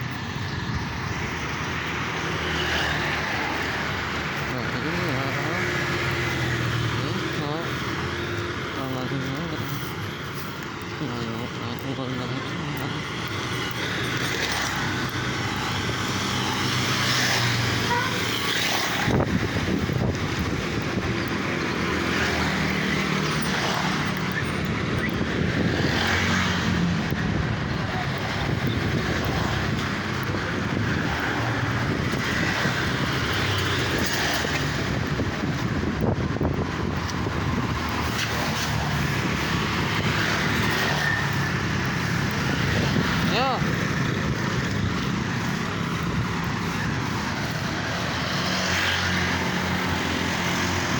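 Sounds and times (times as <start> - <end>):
road and traffic noise: 0.0 - 50.9
vehicle engine hum: 0.0 - 50.9.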